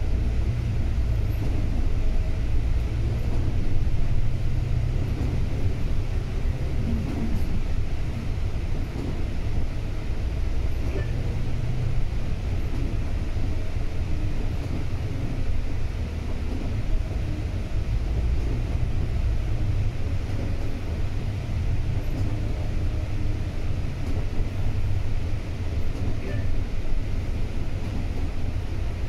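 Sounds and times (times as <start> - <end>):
diesel bus engine rumbling: 0.0 - 29.0
road noise: 0.0 - 29.0.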